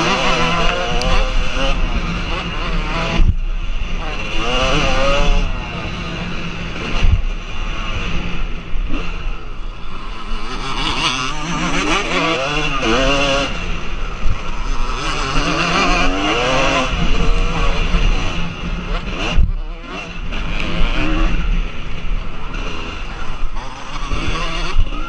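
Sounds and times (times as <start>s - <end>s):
motocross bike engines revving: 0.0s - 25.0s.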